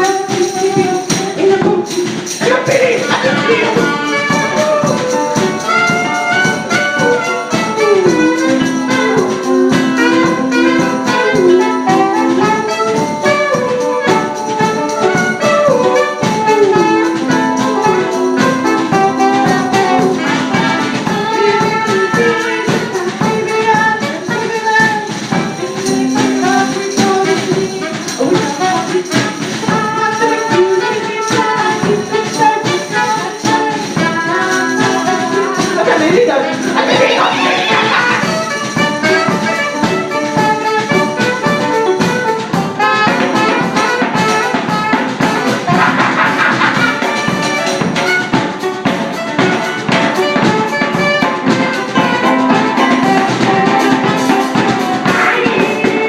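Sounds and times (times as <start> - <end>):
live band playing upbeat music: 0.0 - 56.0
tambourine shaken: 0.0 - 56.0.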